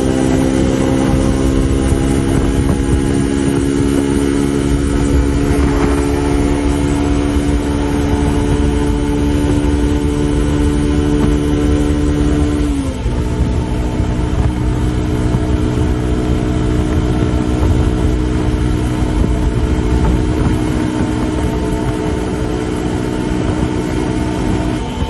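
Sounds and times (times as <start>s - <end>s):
motorcycle engine at high speed: 0.0s - 25.0s
wind and road noise: 0.0s - 25.0s.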